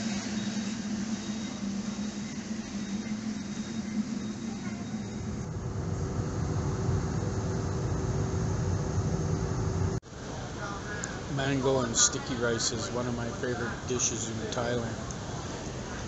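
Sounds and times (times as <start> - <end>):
airliner cabin drone: 0.0 - 16.0
airport terminal hum and hiss: 0.0 - 16.0.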